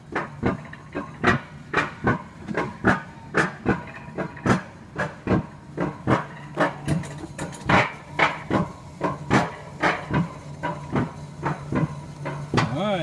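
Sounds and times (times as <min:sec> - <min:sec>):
sled clacking on metal rail: 0:00.0 - 0:13.0.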